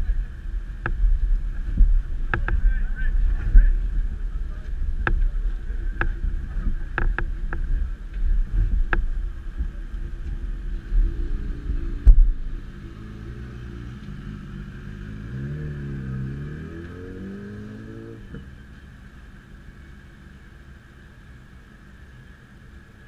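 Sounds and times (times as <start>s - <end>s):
motorcycle engine revving: 0.0s - 18.6s
wind rumble on microphone: 0.0s - 18.6s.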